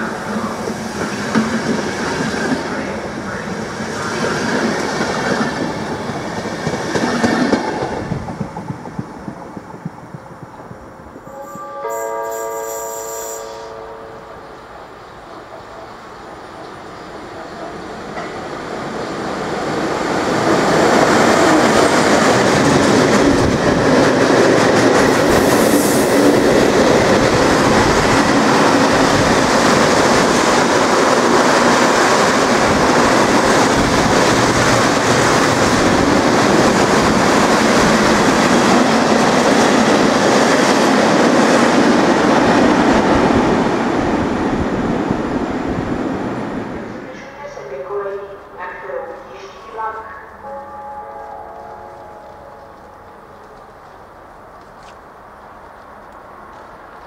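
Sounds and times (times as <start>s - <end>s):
train wheels rumbling on rails: 0.0s - 11.6s, 14.4s - 57.0s.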